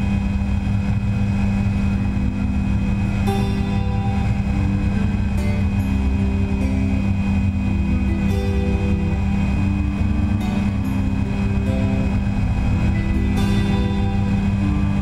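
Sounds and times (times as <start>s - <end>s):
background music: 0.0s - 15.0s
microlight engine drone: 0.0s - 15.0s.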